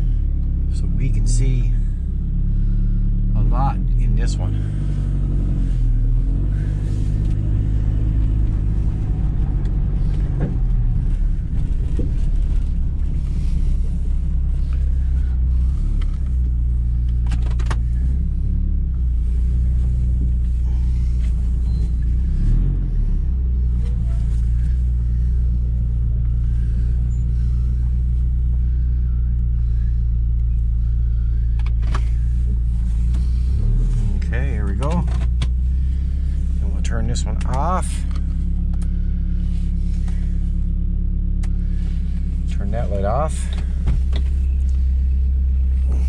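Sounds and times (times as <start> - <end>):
vehicle engine droning: 0.0 - 46.0.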